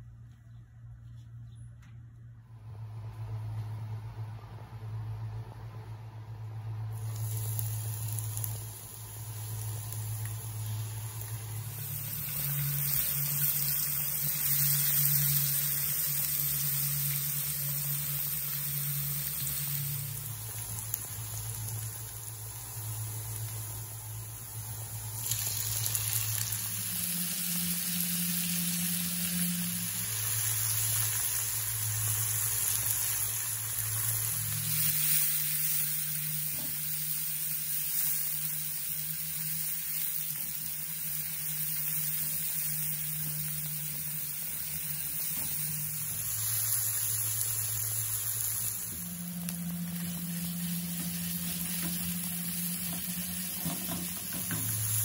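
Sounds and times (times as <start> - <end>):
low steady hum: 0.0 - 55.0
vegetables sizzling in oil: 6.8 - 55.0.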